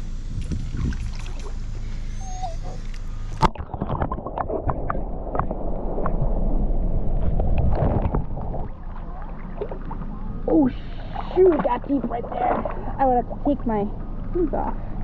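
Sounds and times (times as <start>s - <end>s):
low rumble: 0.0s - 15.0s
water lapping at shoreline: 0.4s - 4.9s, 7.2s - 15.0s.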